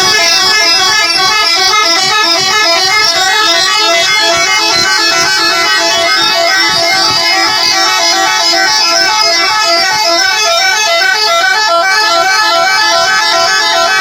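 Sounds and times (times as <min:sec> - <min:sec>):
multi-tone bus horns playing tunes: 0:00.0 - 0:14.0.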